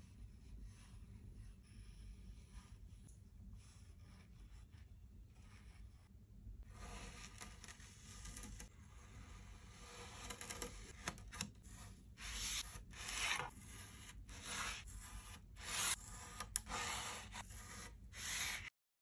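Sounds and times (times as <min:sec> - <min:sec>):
knife scraping kinetic sand: 0:00.0 - 0:02.9, 0:03.6 - 0:18.7.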